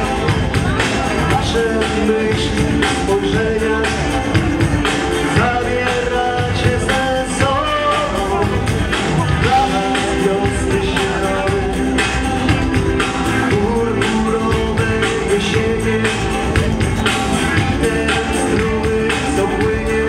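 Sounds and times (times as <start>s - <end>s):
guitars: 0.0s - 20.0s
man singing: 0.0s - 20.0s
steady drum beat: 0.0s - 20.0s.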